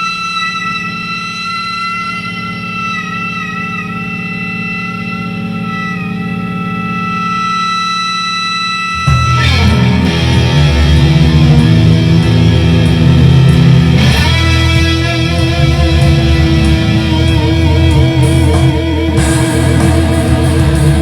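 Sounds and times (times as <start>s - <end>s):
distorted electric guitar riff: 0.0s - 21.0s.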